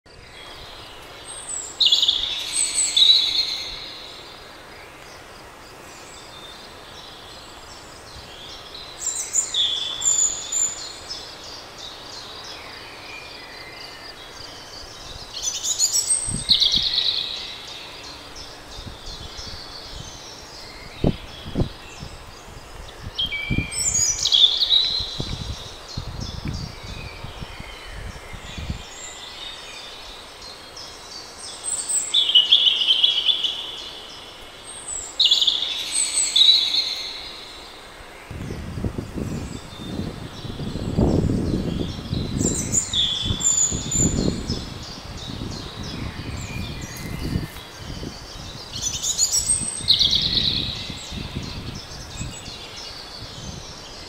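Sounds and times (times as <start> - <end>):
songbird singing: 0.0 - 54.0
steady background hiss: 0.1 - 54.0.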